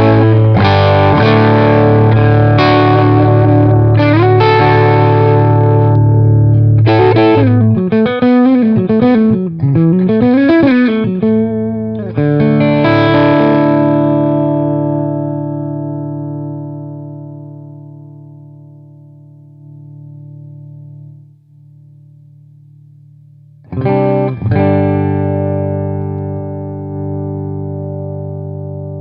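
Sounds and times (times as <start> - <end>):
overdriven electric guitar: 0.0 - 29.0.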